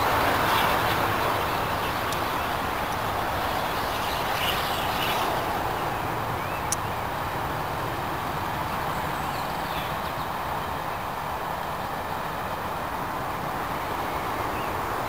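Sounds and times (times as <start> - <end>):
train coaches rolling rumble: 0.0 - 15.0.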